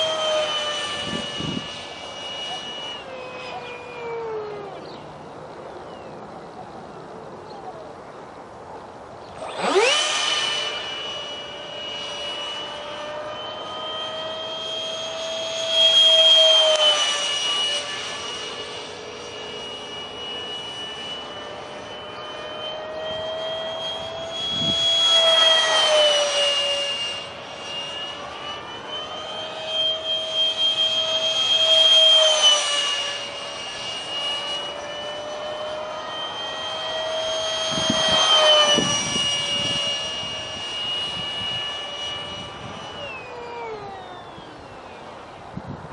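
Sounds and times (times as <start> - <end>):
electric ducted fan jet whining: 0.0 - 45.9.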